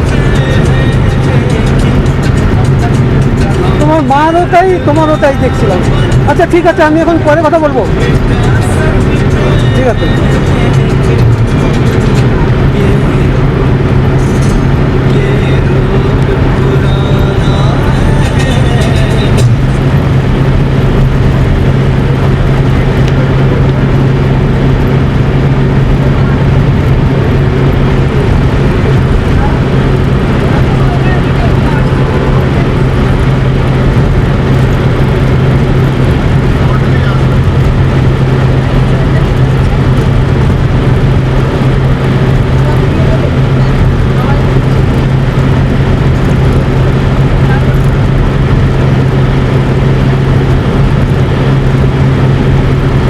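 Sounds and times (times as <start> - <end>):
loud engine with low hum: 0.0 - 53.0
road vehicle rumble: 0.0 - 53.0
rushing noise: 0.0 - 53.0.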